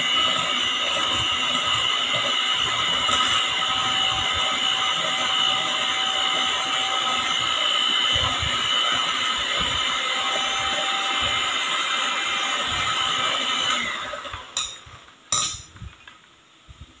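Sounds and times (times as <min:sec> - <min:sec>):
electric hand mixer whisking: 0:00.0 - 0:14.6.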